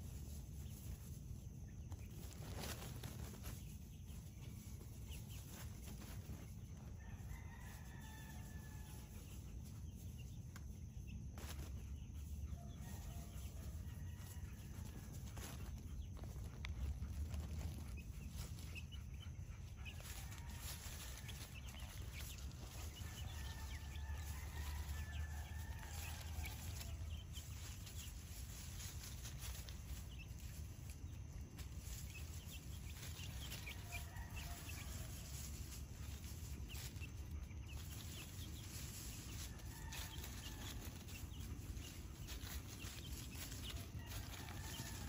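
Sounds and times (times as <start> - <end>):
scratching in dry leaf litter: 0.0 - 10.5, 11.3 - 45.0
chickens clucking softly: 0.0 - 45.0.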